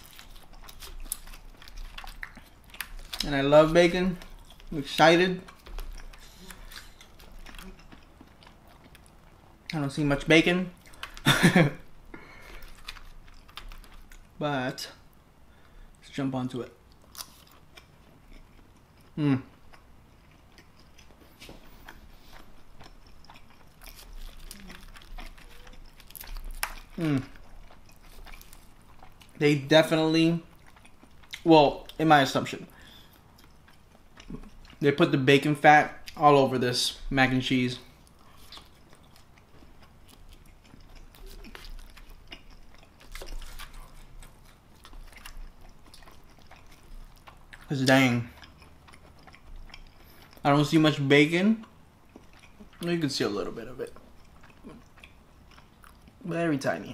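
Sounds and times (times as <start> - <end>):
biting and chewing food: 0.0 - 14.4, 16.6 - 56.9.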